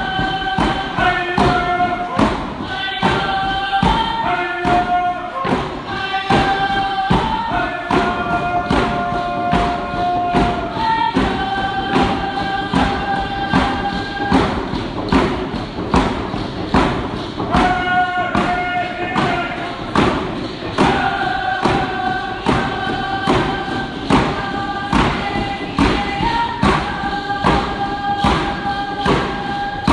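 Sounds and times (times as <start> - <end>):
group singing in unison: 0.0 - 29.9
hand drum beat: 0.0 - 29.9.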